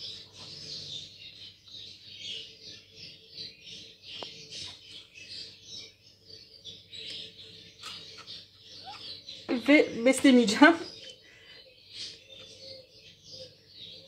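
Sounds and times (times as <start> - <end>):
chicks giving raspy begging chirps: 0.0 - 14.0.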